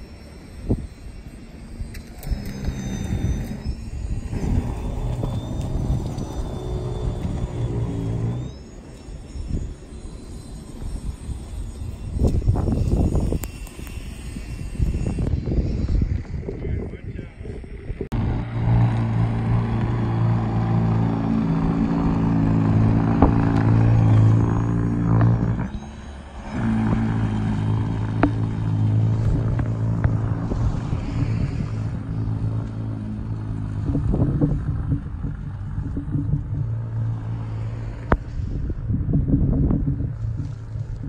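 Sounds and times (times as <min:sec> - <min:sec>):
snow blower humming: 0:00.0 - 0:15.6, 0:18.2 - 0:38.1.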